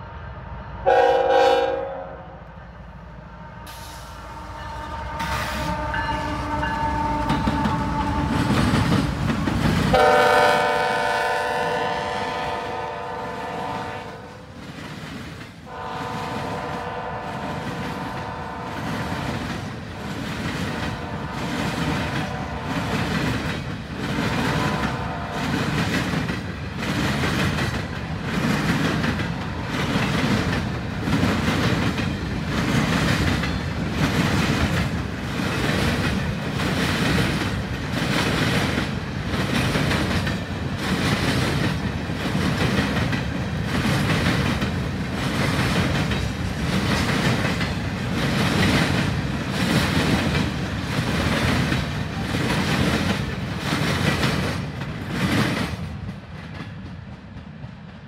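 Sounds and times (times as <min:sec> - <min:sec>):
train wheels clattering over track: 0:05.2 - 0:58.0.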